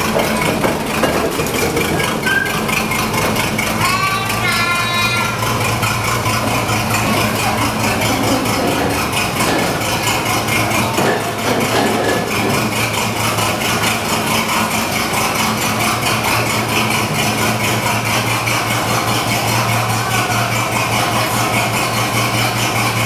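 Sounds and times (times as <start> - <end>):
locomotive engine running: 0.0 - 23.0.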